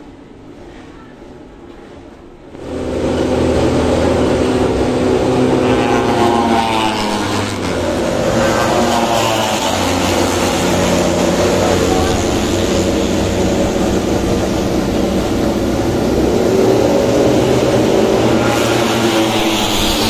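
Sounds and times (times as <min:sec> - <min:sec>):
racing motorcycles passing: 0:02.5 - 0:20.0.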